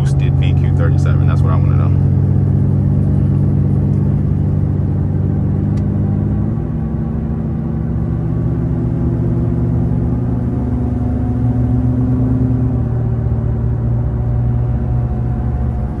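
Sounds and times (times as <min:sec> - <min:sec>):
loud car exhaust droning: 0:00.0 - 0:16.0.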